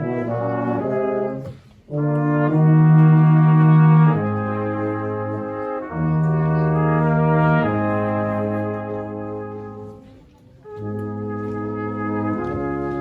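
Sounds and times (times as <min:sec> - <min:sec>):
brass quartet playing chords: 0:00.0 - 0:13.0.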